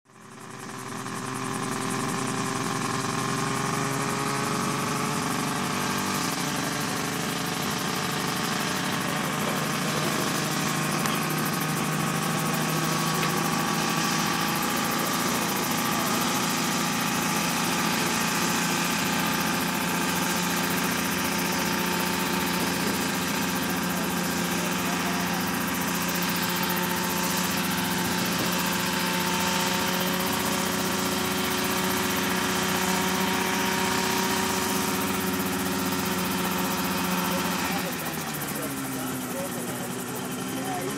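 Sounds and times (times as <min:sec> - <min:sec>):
helicopter engine running: 0:00.1 - 0:40.9.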